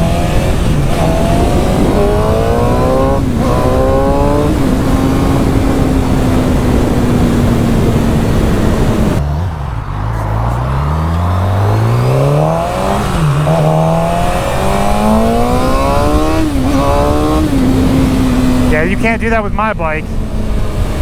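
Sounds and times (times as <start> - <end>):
wind rushing over microphone: 0.0 - 9.9, 10.6 - 21.0
motorcycle engine accelerating: 0.0 - 21.0.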